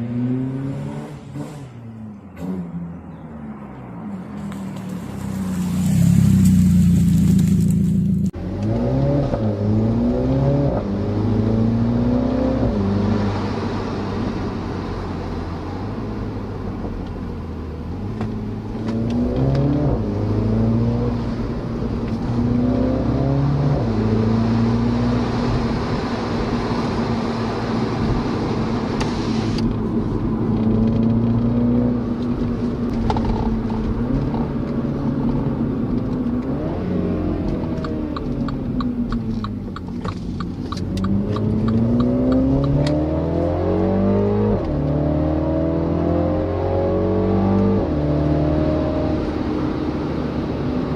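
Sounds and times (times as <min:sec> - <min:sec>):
car engine and exhaust: 0:00.0 - 0:50.9.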